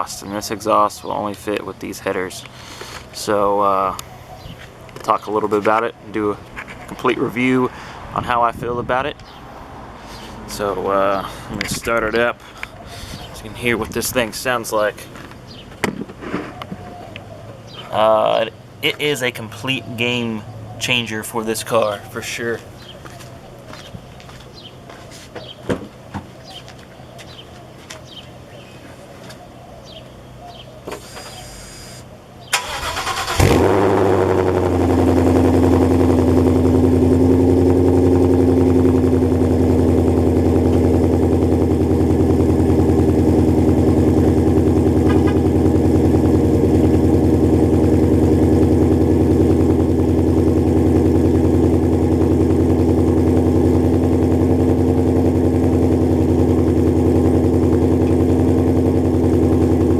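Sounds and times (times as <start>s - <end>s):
car engine starting and idling: 0.0s - 27.4s, 29.8s - 59.9s.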